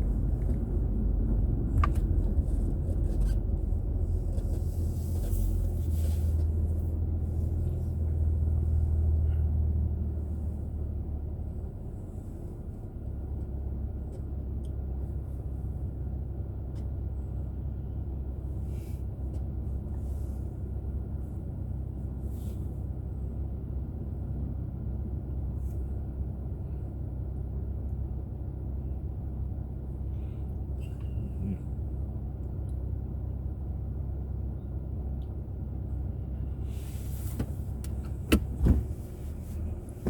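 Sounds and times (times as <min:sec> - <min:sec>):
car driving on road: 0:00.0 - 0:40.0.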